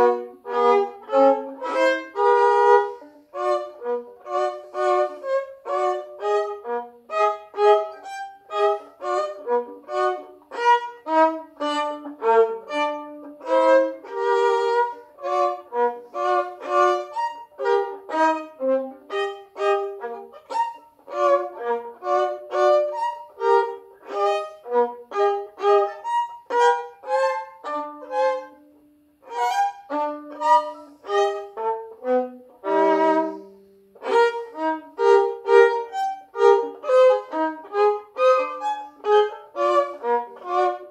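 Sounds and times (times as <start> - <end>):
solo violin tune: 0.0 - 40.9.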